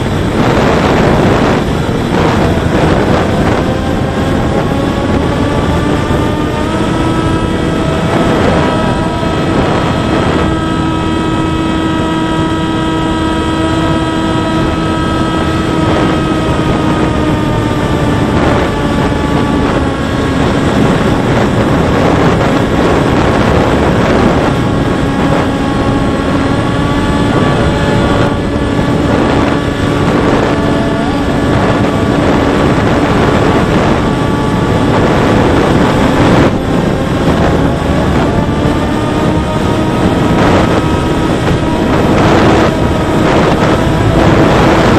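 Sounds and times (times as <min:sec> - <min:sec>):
model plane motor droning: 0:00.0 - 0:44.9
wind rush on microphone: 0:00.0 - 0:44.9.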